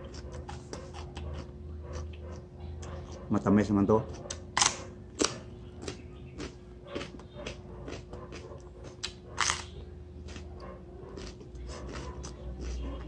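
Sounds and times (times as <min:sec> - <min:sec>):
crunching and chewing: 0:00.0 - 0:13.0.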